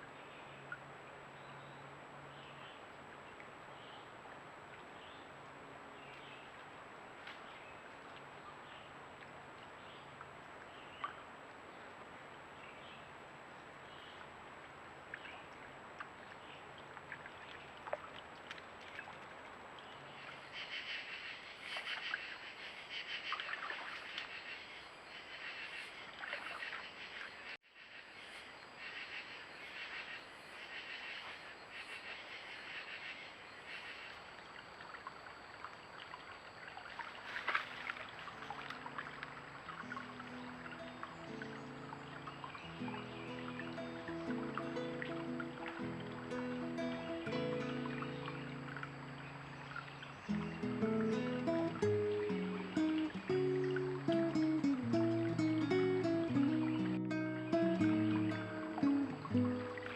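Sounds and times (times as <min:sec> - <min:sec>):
steady creek hiss: 0:00.0 - 0:59.9.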